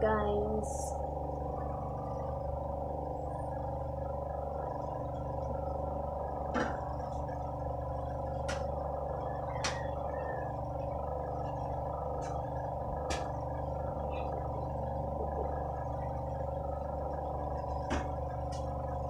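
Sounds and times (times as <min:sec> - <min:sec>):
electric fan motor hum: 0:00.0 - 0:19.0.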